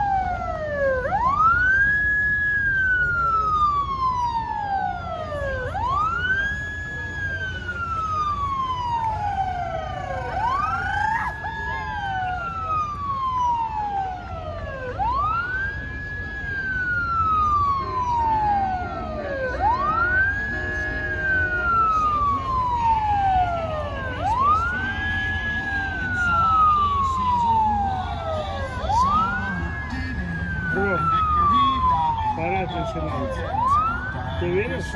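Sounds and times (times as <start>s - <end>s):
emergency siren wailing: 0.0s - 34.9s.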